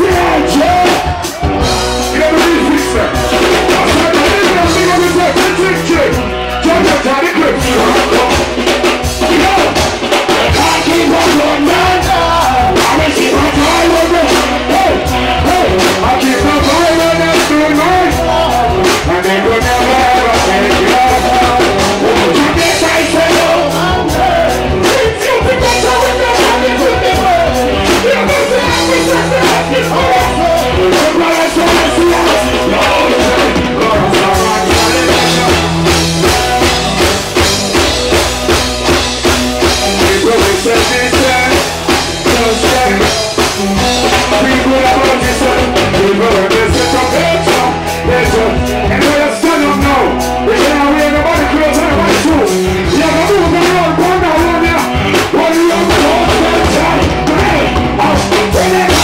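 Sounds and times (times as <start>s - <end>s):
man singing into microphone: 0.0s - 37.2s, 39.6s - 59.0s
reggae band playing: 0.0s - 59.0s.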